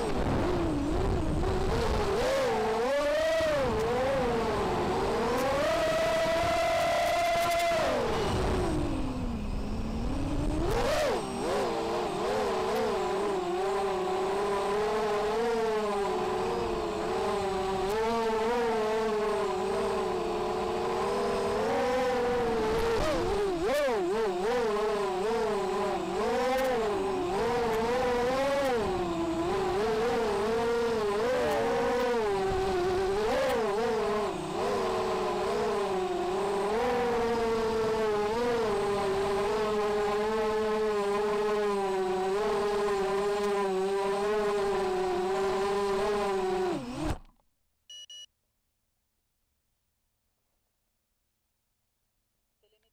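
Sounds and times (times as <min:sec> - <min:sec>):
drone motors whining: 0:00.0 - 0:47.4.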